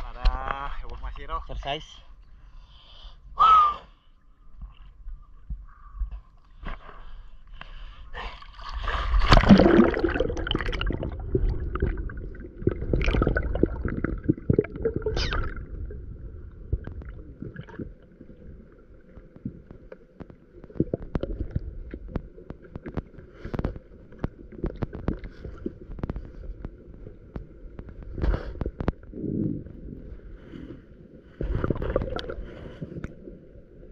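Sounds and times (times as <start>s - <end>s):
muffled water gurgling and sloshing: 4.1s - 33.9s.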